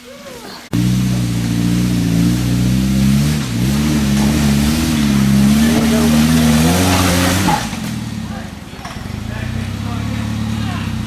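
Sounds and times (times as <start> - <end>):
engine revving: 0.7 - 11.0.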